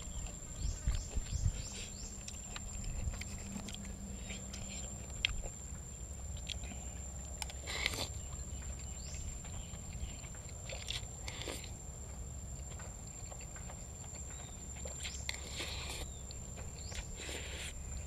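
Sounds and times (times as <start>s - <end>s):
chewing food: 0.0s - 18.0s
steady low hum: 0.0s - 18.0s.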